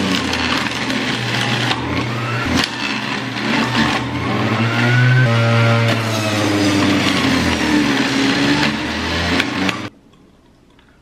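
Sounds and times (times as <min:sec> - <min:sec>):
juicer motor whining: 0:00.0 - 0:09.9.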